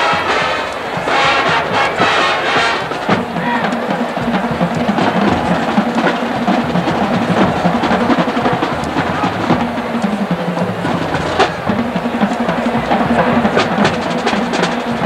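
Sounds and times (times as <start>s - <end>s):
bass drum beats: 0.0s - 15.0s
snare drum rolls: 0.0s - 15.0s.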